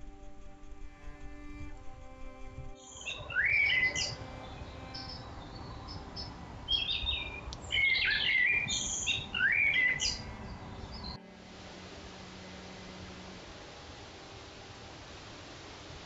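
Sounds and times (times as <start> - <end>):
small birds chirping: 0.0 - 16.0
steady hiss: 0.0 - 16.0.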